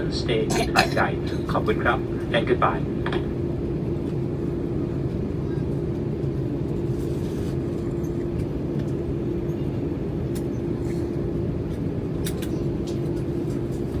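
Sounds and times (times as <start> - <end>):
aircraft cabin rumble and hum: 0.0 - 14.0.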